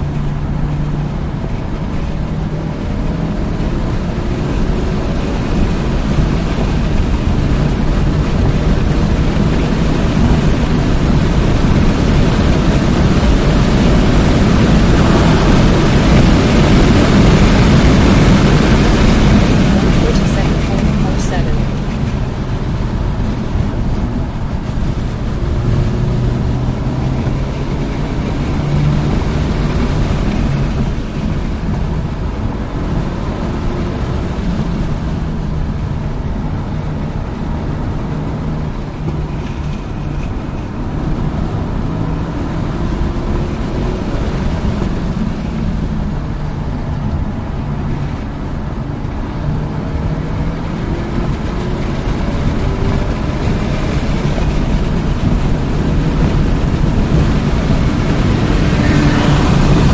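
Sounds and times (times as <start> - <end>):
car engine accelerating: 0.0 - 59.9
wind and road noise: 0.0 - 59.9.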